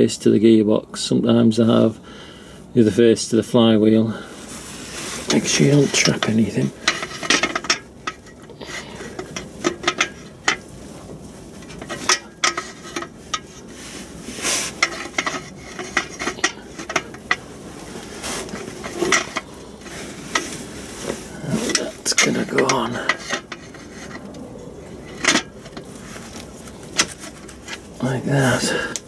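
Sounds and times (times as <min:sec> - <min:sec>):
metal scraping: 0:04.4 - 0:29.0.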